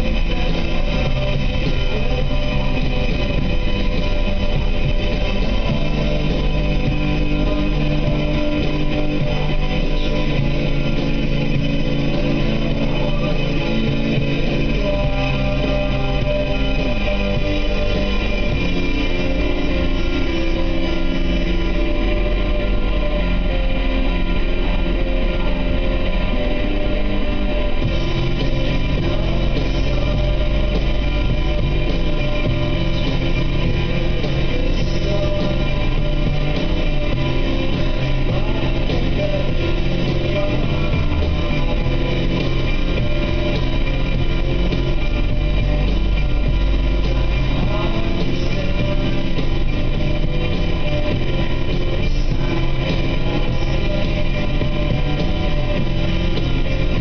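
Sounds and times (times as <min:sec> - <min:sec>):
car driving rumble: 0:00.0 - 0:57.0
rock music with guitar: 0:00.0 - 0:57.0.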